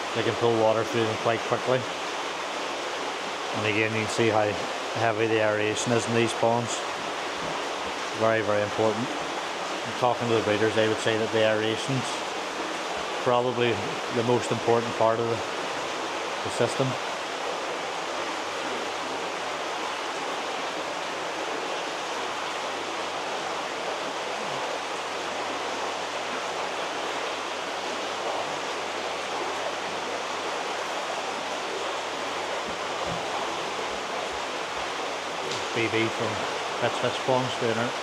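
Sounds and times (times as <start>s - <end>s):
churning water rushing: 0.0s - 38.0s.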